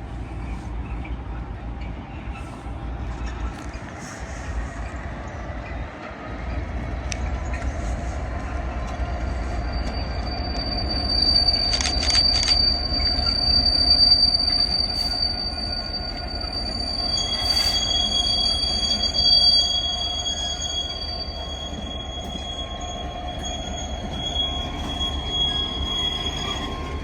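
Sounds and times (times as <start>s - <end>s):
train rumbling: 0.0s - 27.0s
wheels squealing on rails: 0.0s - 27.0s.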